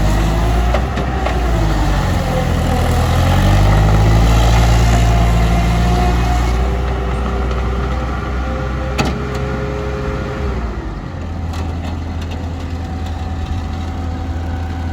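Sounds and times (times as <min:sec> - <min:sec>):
diesel engine revving and idling: 0:00.0 - 0:14.9.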